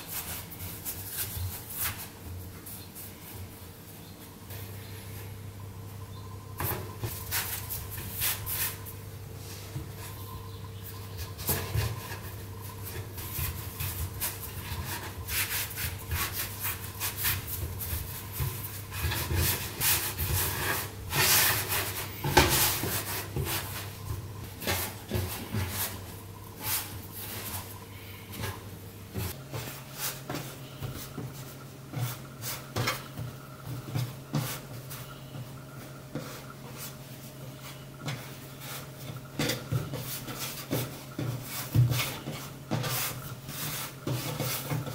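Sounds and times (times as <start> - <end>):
steady low hum: 0.0 - 44.1
hands rolling dough on wood: 6.6 - 44.9.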